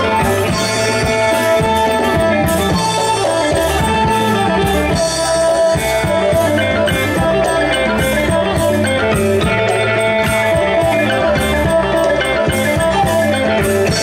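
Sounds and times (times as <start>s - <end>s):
folk band melody: 0.0s - 14.0s
steady drum beat: 0.0s - 14.0s.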